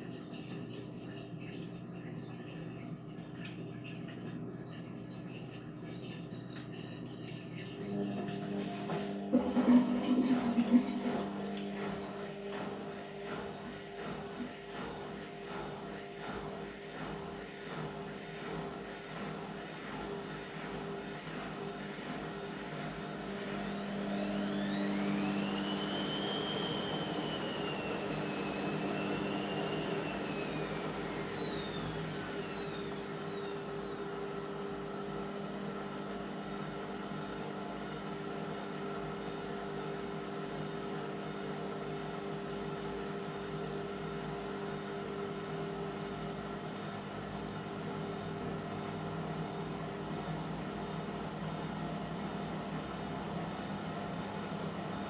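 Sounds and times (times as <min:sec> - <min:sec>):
steady mechanical hum: 0:00.0 - 0:20.2, 0:20.9 - 0:55.0
washing machine motor whining: 0:07.5 - 0:55.0.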